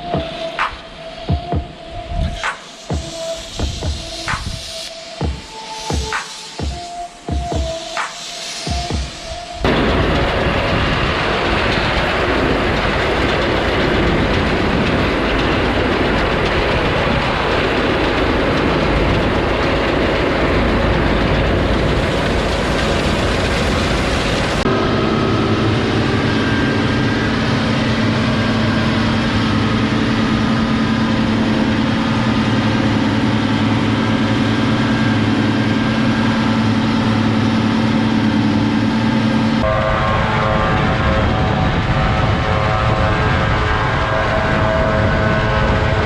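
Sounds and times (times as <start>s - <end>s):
loud machine engine noise: 0.0s - 46.0s.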